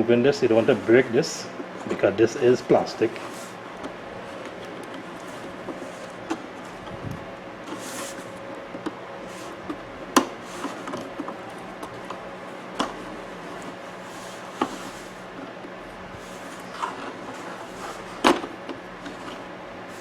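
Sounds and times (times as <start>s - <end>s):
light rubbing and handling: 0.4s - 20.0s.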